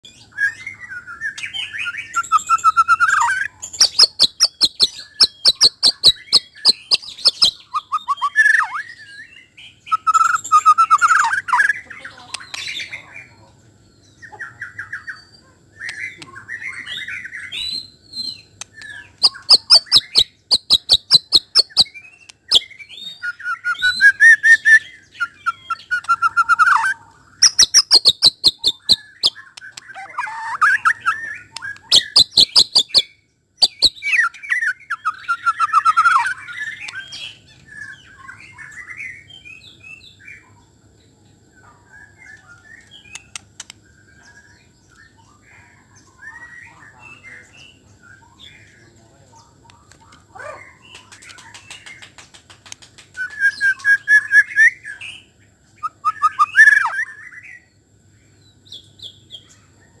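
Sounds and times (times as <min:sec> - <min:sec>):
bird singing: 0:00.0 - 1:00.0.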